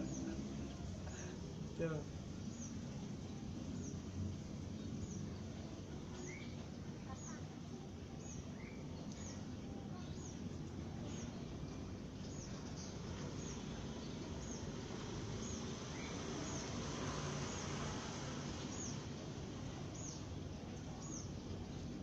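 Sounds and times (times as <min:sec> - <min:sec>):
low background noise: 0:00.0 - 0:22.0
sparrows chirping: 0:00.0 - 0:22.0.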